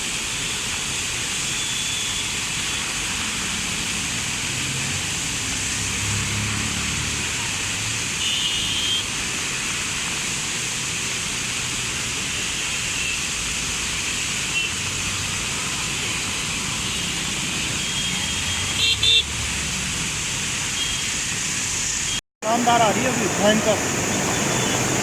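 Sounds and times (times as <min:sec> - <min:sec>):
river water rushing: 0:00.1 - 0:25.0.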